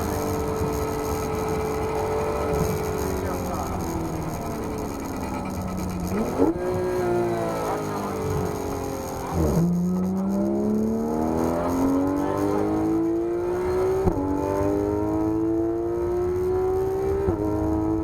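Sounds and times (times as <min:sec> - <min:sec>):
sports car engine accelerating hard: 0:00.0 - 0:18.0.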